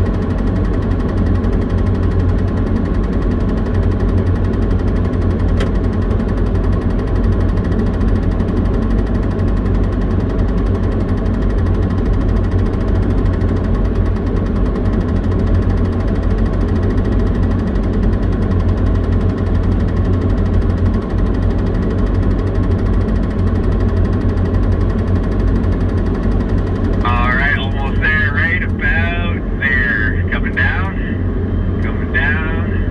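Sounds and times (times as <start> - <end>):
diesel engine droning: 0.0 - 32.9.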